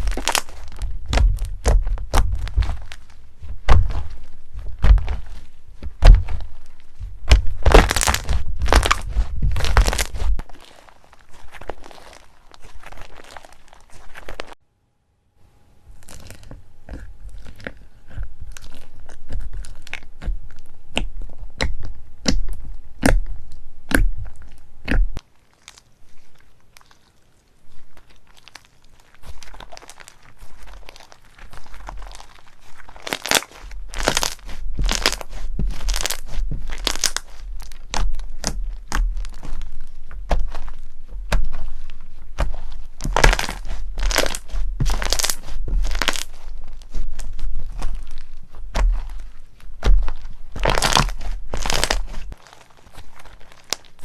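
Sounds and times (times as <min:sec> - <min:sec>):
crunchy slime crackling: 0:00.0 - 0:14.6, 0:15.8 - 0:54.0.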